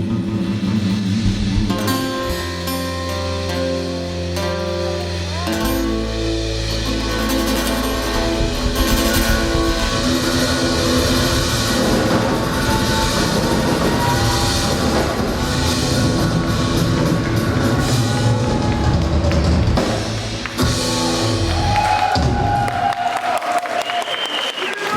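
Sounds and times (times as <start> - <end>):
live rock band playing: 0.0 - 22.6.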